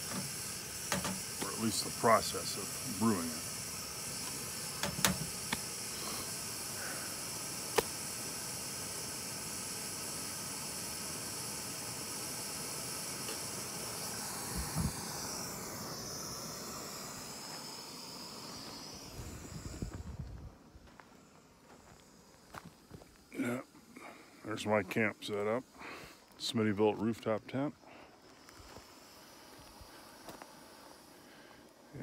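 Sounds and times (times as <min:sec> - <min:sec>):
camping stove hissing: 0:00.0 - 0:32.0.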